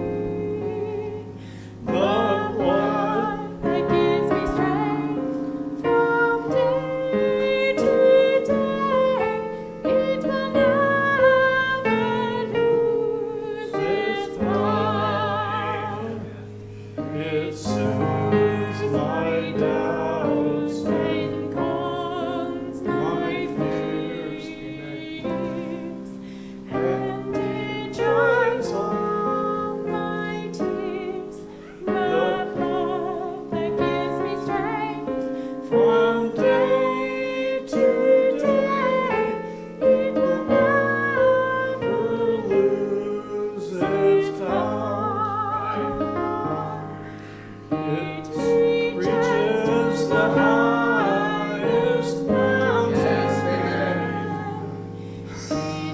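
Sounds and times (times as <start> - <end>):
person singing with vibrato: 0.0 - 55.9
piano accompaniment: 0.0 - 55.9.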